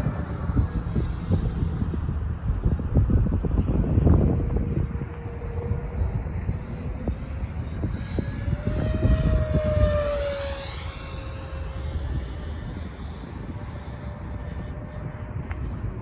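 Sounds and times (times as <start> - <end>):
electric ducted-fan jet whine: 0.0 - 16.0
wind buffeting microphone: 0.0 - 16.0.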